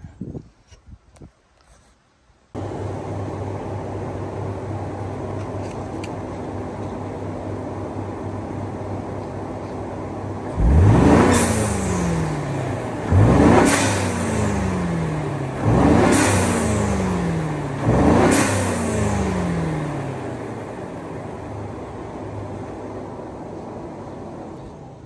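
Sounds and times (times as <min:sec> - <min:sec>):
truck engine idling and revving: 0:02.6 - 0:25.0.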